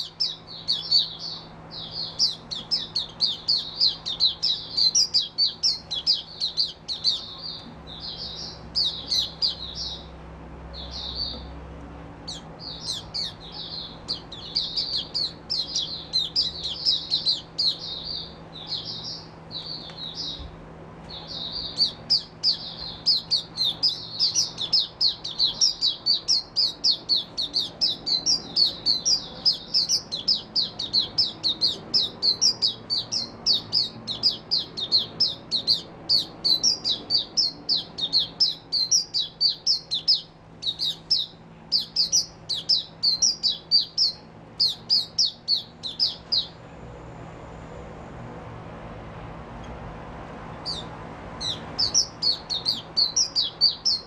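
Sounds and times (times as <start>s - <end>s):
bird twittering: 0.0s - 11.5s, 12.2s - 20.5s, 21.1s - 46.6s, 50.6s - 54.0s.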